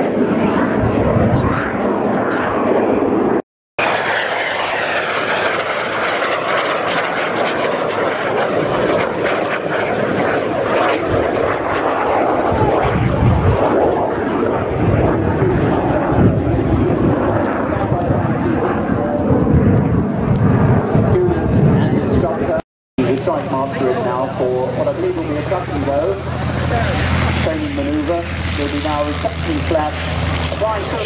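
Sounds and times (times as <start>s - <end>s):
aircraft flying overhead: 0.0s - 31.0s.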